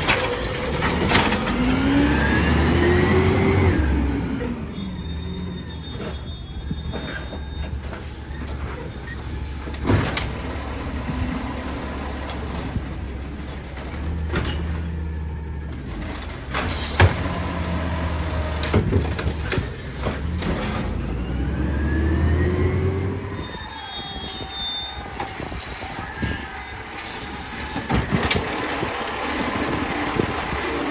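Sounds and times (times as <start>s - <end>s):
diesel engine running: 0.0s - 23.7s, 24.8s - 30.9s.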